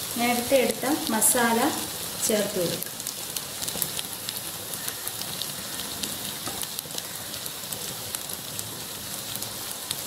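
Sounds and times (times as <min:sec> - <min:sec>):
oil sizzling in a pot: 0:00.0 - 0:10.0.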